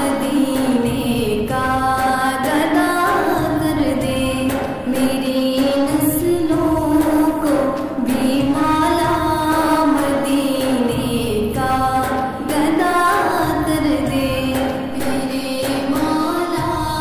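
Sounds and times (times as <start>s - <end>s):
woman singing devotional song: 0.0s - 17.0s.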